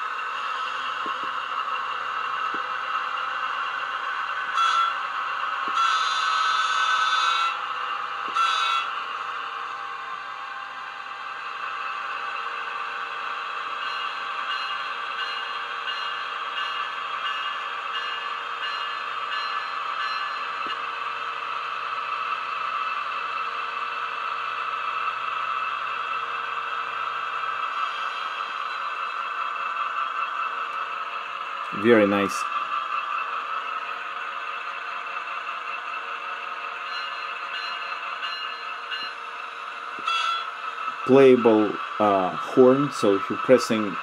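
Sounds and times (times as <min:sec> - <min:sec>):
model train motor hum with whining: 0:00.0 - 0:44.0.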